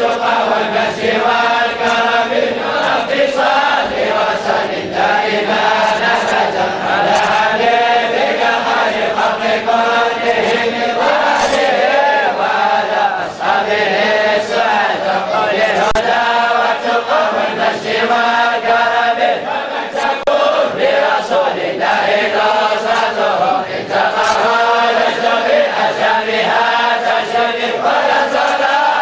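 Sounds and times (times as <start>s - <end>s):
group chanting in unison: 0.0s - 29.0s.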